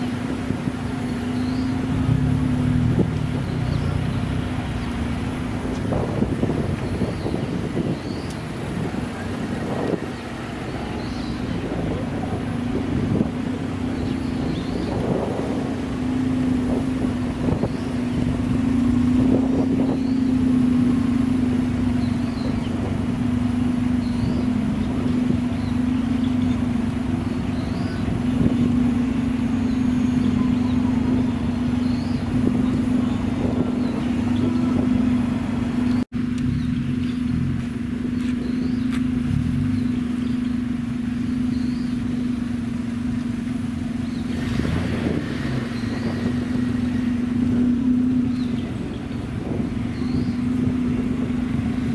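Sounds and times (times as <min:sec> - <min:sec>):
car engine running steadily: 0:00.0 - 0:51.9.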